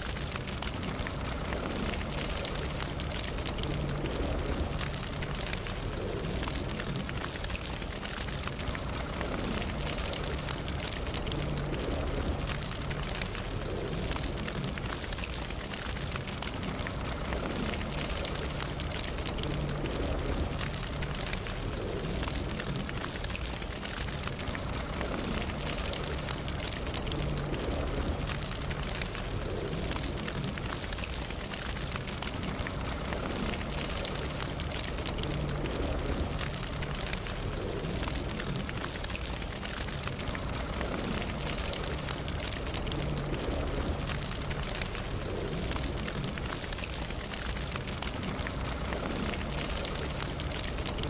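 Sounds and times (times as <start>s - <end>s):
burning wood crackling and popping: 0.0s - 51.0s
low rumble of flames: 0.0s - 51.0s.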